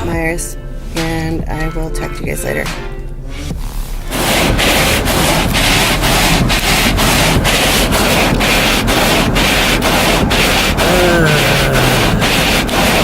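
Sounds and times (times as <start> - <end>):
rhythmic scraping: 2.2 - 13.0.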